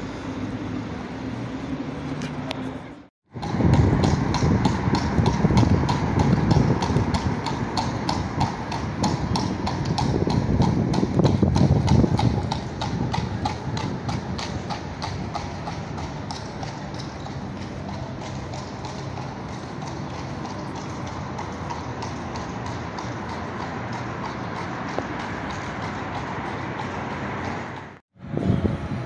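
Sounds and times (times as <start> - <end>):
horse hooves on asphalt: 3.3 - 28.0.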